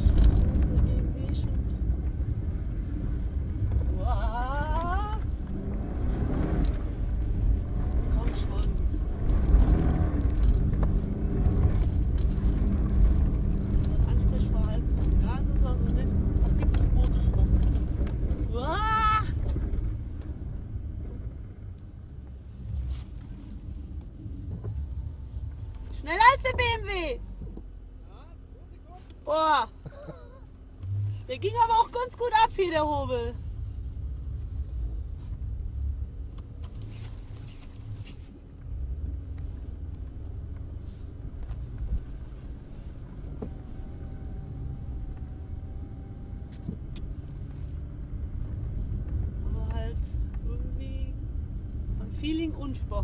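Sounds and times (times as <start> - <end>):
car engine and tyre drone: 0.0 - 53.0.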